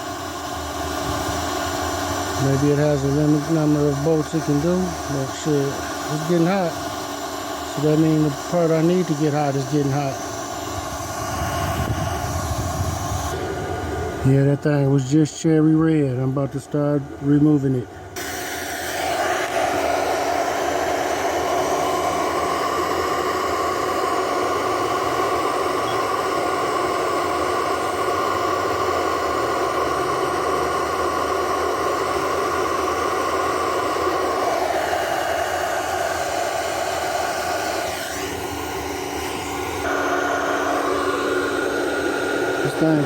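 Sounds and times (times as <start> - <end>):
induction heater hissing and whining: 0.0 - 43.0.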